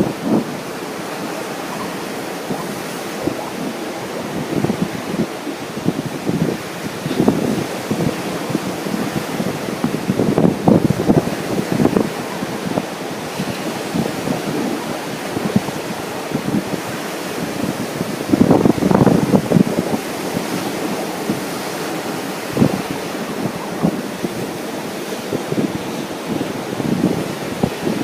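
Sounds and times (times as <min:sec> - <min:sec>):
ocean surf on a beach: 0:00.0 - 0:28.0
wind buffeting microphone: 0:00.0 - 0:28.0.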